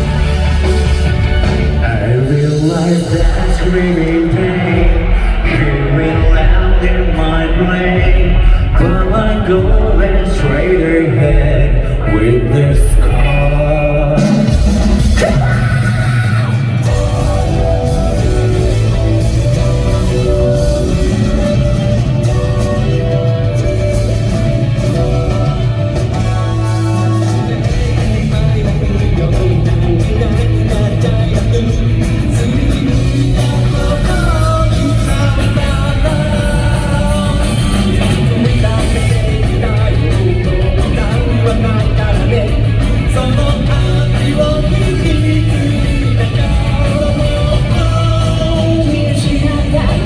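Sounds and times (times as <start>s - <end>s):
live rock band playing: 0.0s - 50.0s
person singing: 0.0s - 50.0s.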